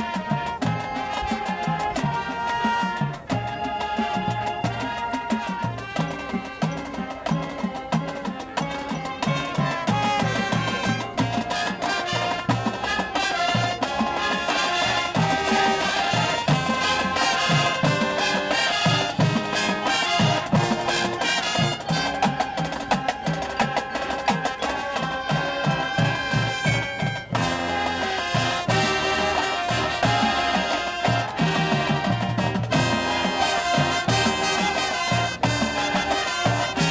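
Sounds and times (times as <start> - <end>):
brass playing tune: 0.0 - 36.9
drumline beat: 0.0 - 36.9.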